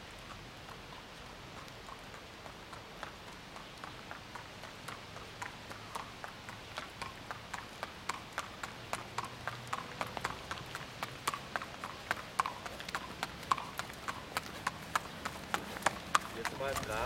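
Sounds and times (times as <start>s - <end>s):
horse hooves on pavement: 0.0s - 17.0s.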